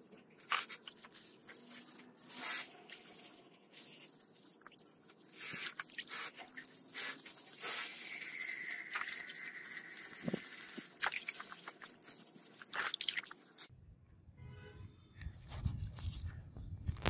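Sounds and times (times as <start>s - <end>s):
water splashing and sloshing: 0.0s - 13.7s
wire brush scrubbing metal: 0.0s - 13.7s.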